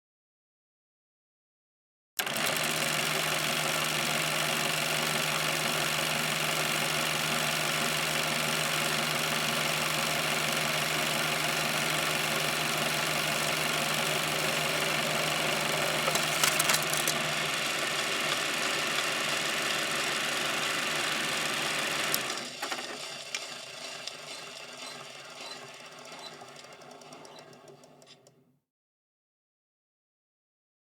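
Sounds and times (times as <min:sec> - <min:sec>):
film projector running: 0:02.2 - 0:28.3.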